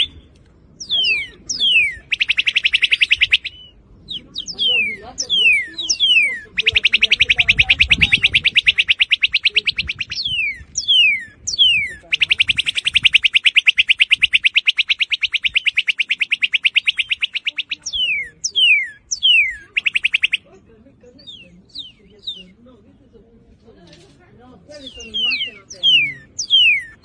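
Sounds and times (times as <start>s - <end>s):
bird singing whistles and trills: 0.0s - 20.5s, 21.2s - 22.6s, 24.7s - 27.0s.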